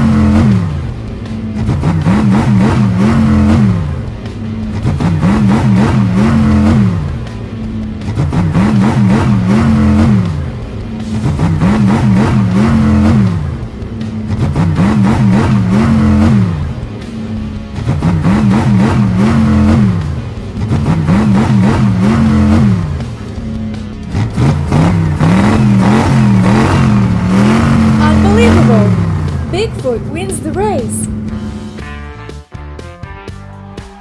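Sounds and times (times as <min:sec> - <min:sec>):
cartoon truck engine revving: 0:00.0 - 0:32.4
background music: 0:00.0 - 0:34.0.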